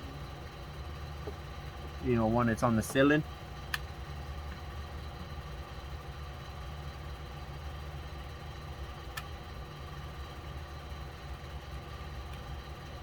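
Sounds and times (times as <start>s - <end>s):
low droning hum: 0.0s - 12.2s.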